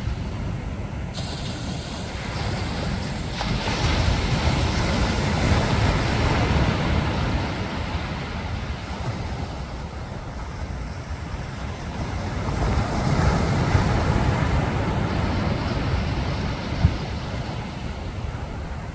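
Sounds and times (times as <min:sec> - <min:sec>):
ocean surf washing on beach: 0:00.0 - 0:18.9.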